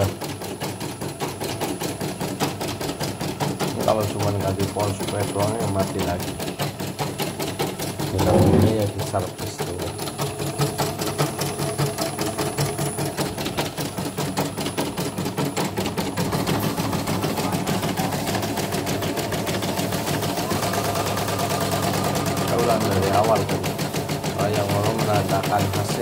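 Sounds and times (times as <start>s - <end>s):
embroidery machine needle clatter: 0.0s - 26.0s.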